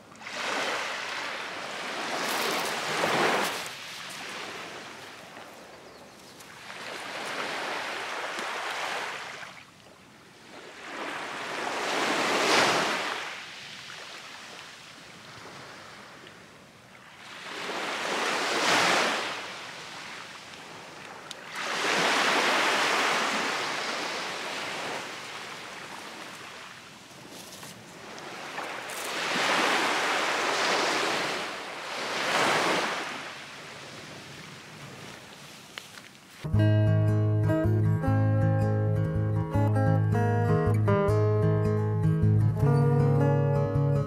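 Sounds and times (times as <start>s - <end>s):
waves washing onto shore: 0.0s - 5.8s, 6.4s - 36.5s.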